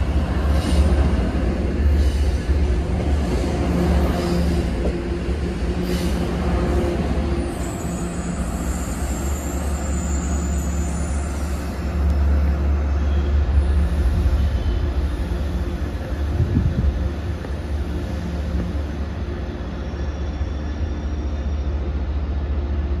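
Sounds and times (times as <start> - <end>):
train rumbling past: 0.0 - 23.0.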